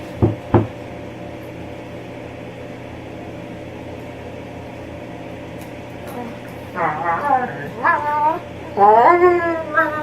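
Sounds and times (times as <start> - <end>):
fan humming: 0.0 - 10.0.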